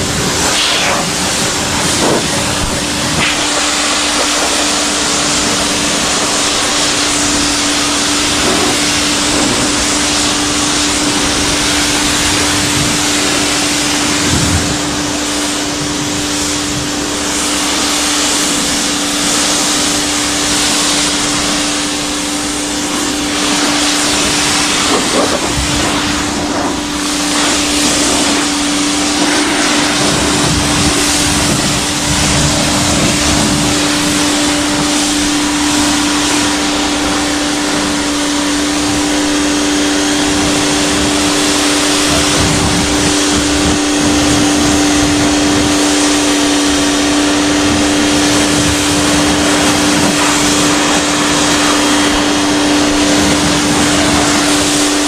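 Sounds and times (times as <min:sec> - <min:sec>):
high-pressure water spray hiss: 0:00.0 - 0:55.0
pressure washer motor hum: 0:00.0 - 0:55.0.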